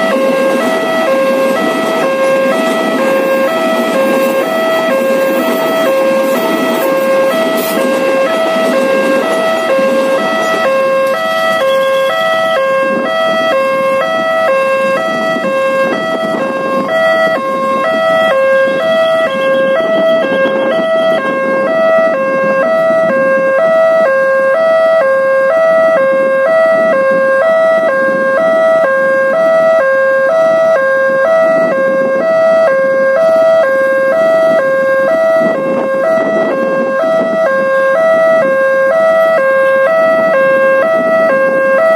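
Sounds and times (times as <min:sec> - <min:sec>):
level crossing alarm two-tone: 0:00.0 - 0:41.9.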